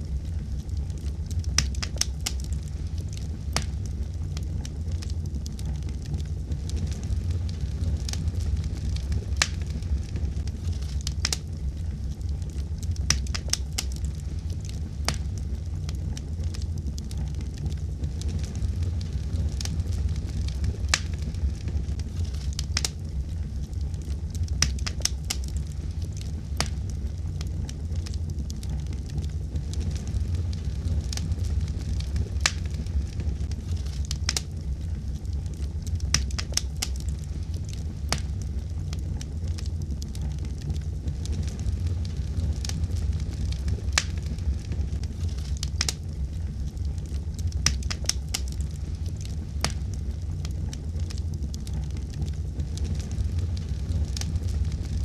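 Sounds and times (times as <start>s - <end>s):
fire pops and snaps: 0.0s - 55.0s
low rumble of flames: 0.0s - 55.0s.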